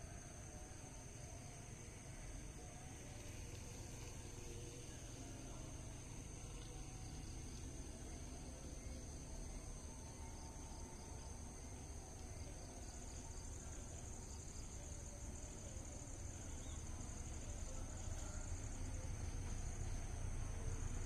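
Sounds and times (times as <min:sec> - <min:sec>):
insects chirring: 0:00.0 - 0:21.0
pulsing insect trill: 0:00.0 - 0:21.0.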